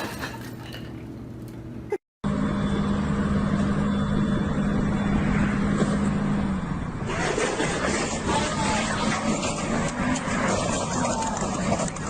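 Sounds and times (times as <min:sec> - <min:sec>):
vehicle engine humming: 0:00.9 - 0:12.0
rough bright engine noise: 0:02.2 - 0:12.0.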